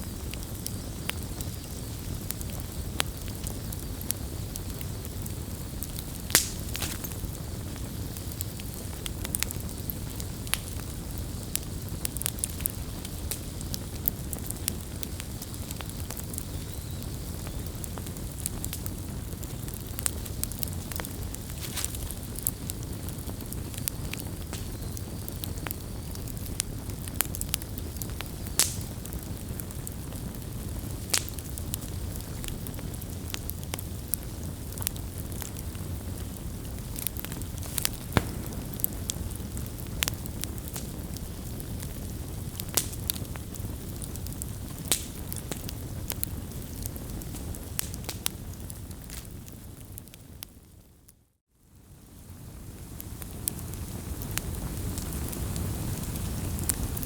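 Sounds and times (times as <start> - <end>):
campfire crackling and popping: 0.0 - 50.8, 52.0 - 57.0.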